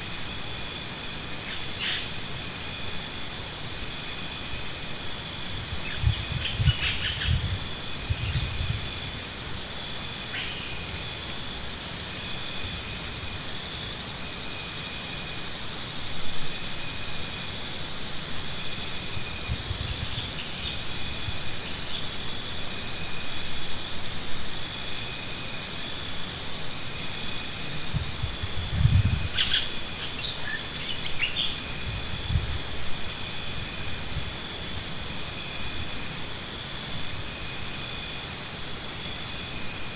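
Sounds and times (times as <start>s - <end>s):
insects chirping in rapid trills: 0.0s - 39.9s.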